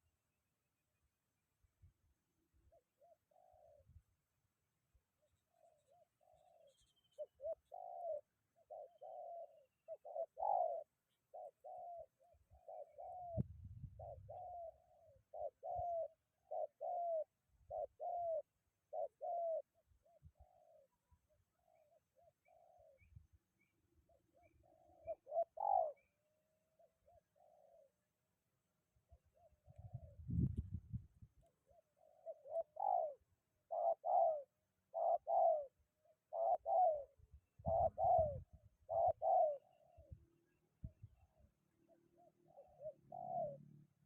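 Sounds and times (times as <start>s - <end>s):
doves cooing: 2.7s - 4.0s, 5.4s - 23.1s, 24.0s - 28.2s, 31.5s - 44.0s.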